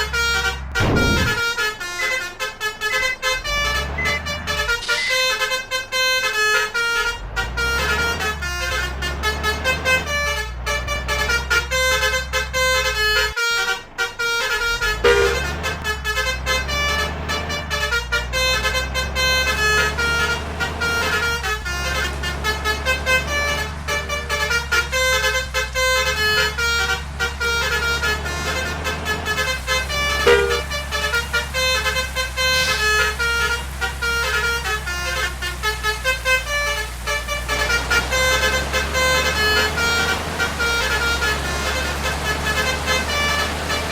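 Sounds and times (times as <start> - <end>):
bus engine running: 0.0 - 43.9
musical air horns playing melodies: 0.0 - 43.9.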